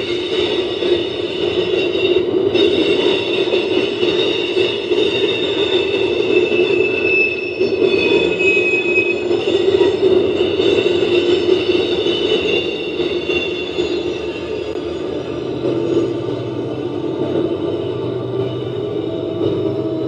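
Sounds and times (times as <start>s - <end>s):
high wheel squeal: 0.0s - 20.0s
train wheels rumbling on rail: 0.0s - 20.0s.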